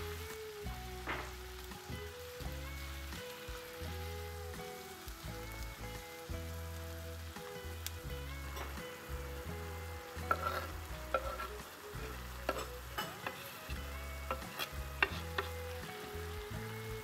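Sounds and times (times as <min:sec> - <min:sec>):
shrimp sizzling in a pan: 0:00.0 - 0:17.0.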